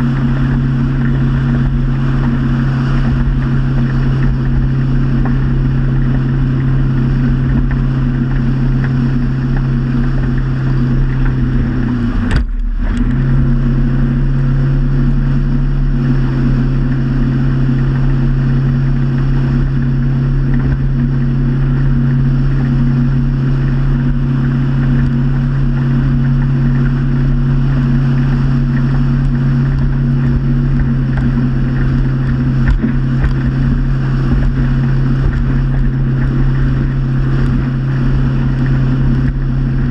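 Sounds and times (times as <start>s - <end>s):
motorboat engine humming: 0.0s - 39.9s.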